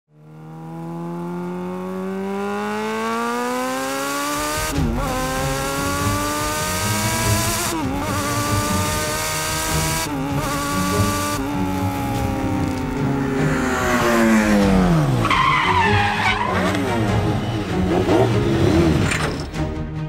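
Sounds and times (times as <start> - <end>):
motorcycle engine accelerating: 0.1 - 19.2
road and wind noise: 0.1 - 19.6
gear upshifts: 0.2 - 19.6.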